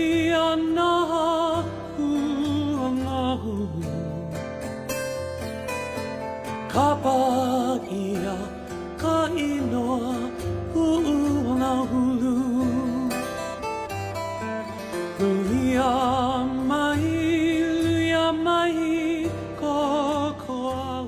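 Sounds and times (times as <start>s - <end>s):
plucked guitar: 0.0s - 21.0s.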